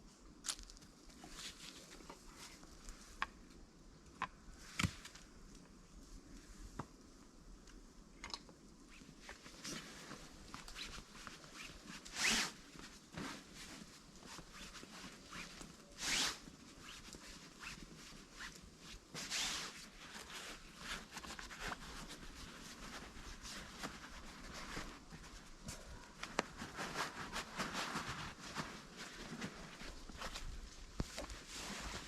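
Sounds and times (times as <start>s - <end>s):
rustling handling noises: 0.4s - 3.6s, 8.8s - 32.0s.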